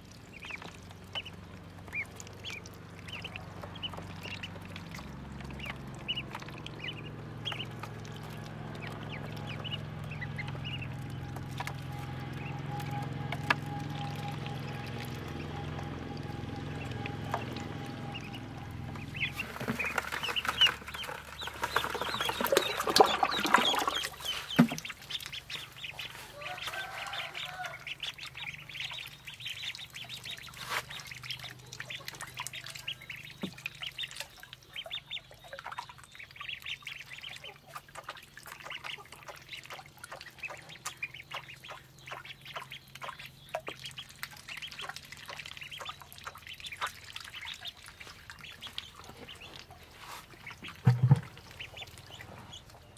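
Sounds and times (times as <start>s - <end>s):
ducklings peeping: 0.0s - 52.9s.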